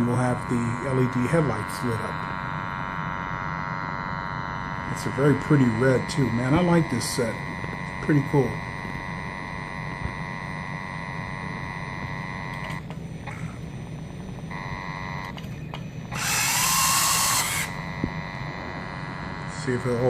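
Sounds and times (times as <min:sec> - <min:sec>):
model train high whine: 0:00.0 - 0:20.0.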